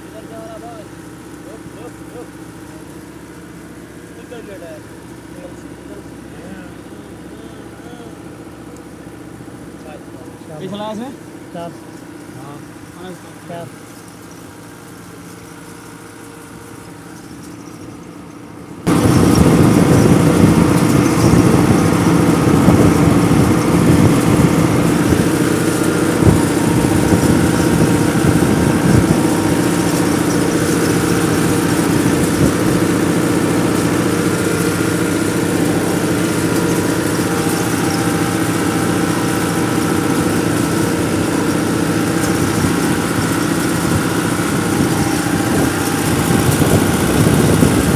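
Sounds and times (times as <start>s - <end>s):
tractor motor running: 0.0s - 47.9s.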